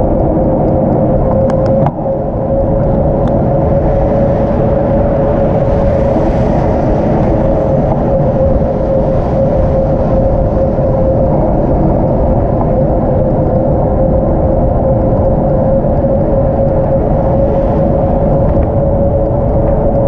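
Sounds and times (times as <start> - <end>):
constant hum: 0.0 - 20.0
wind rumble on microphone: 0.0 - 20.0.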